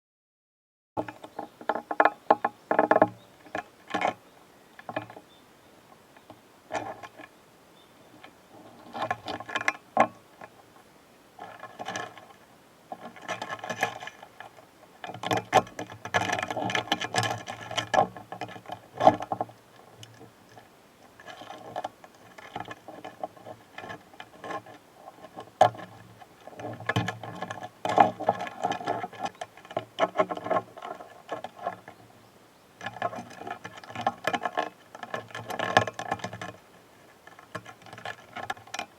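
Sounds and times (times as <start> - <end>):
beetles clicking and scratching: 1.0 - 32.2, 32.8 - 38.9.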